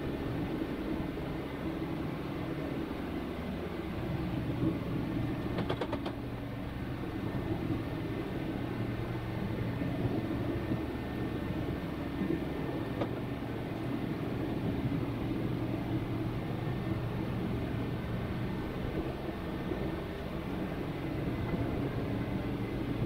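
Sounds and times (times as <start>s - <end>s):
machine droning hum: 0.0s - 5.6s, 6.2s - 23.0s.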